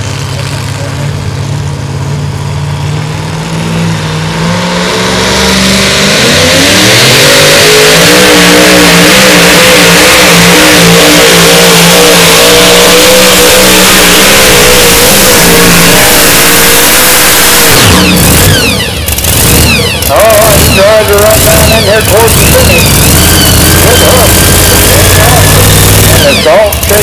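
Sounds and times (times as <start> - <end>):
truck engine revving under load: 0.0 - 27.0.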